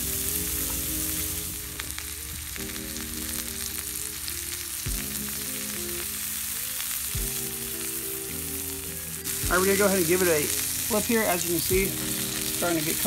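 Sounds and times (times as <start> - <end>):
background music: 0.0 - 13.0
meat sizzling in a skillet: 0.0 - 13.0.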